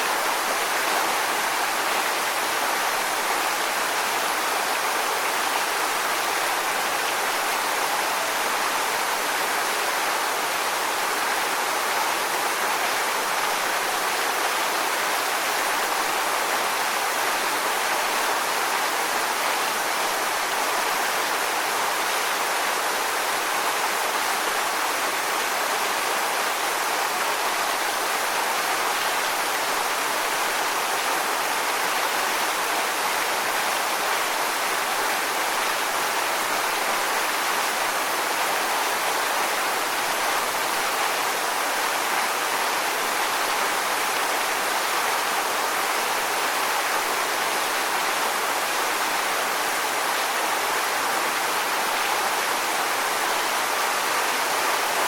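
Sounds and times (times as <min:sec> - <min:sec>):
waterfall onto rocks: 0:00.0 - 0:55.0.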